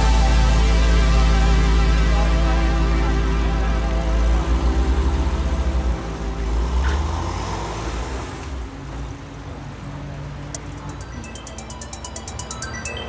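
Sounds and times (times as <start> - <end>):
car engine pulling away: 0.0 - 10.6.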